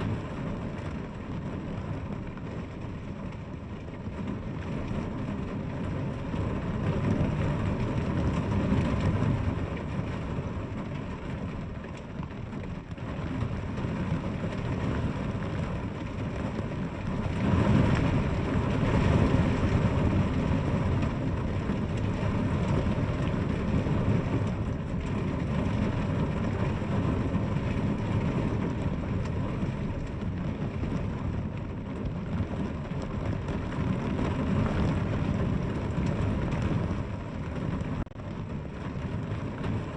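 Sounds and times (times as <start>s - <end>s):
deep rumble: 0.0s - 39.9s
steady rain falling: 0.0s - 39.9s.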